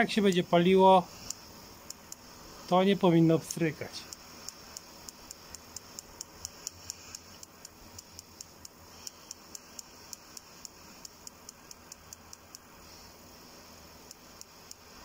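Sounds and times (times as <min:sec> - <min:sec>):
gas heater spark igniter clicking: 0:00.0 - 0:12.7, 0:14.0 - 0:15.0.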